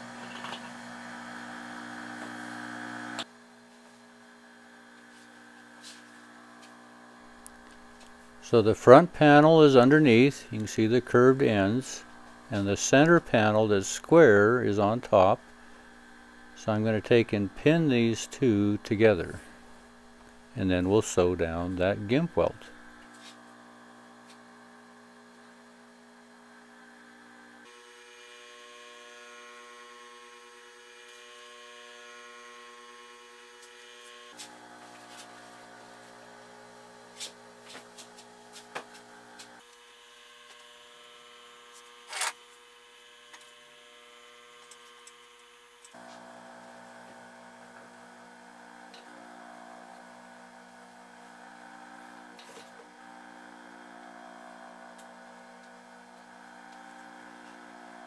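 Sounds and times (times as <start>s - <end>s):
workshop hum: 0.0s - 58.0s.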